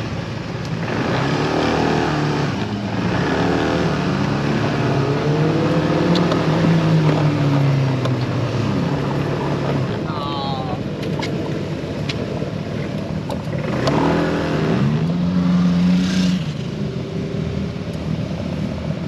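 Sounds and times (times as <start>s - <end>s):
motorcycle engine accelerating: 0.0s - 10.2s, 12.3s - 19.0s
road and wind noise: 0.0s - 19.0s.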